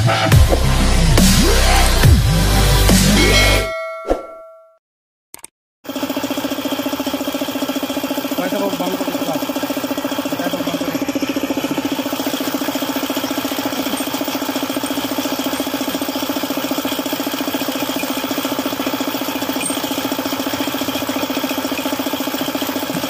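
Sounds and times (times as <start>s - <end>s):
engine running with pulsing beat: 0.0s - 3.7s, 5.8s - 23.0s.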